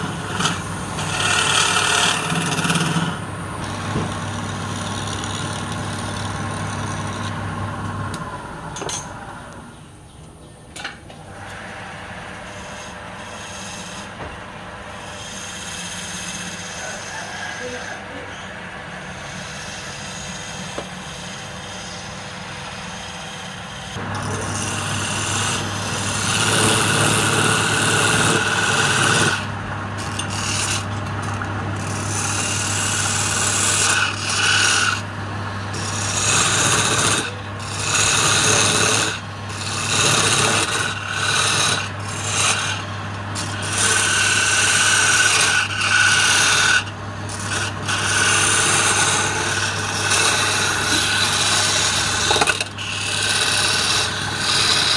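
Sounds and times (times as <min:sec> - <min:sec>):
chisel scraping spinning wood: 0:00.0 - 0:09.7, 0:11.3 - 0:54.9
lathe motor humming: 0:00.0 - 0:09.8, 0:11.2 - 0:54.9.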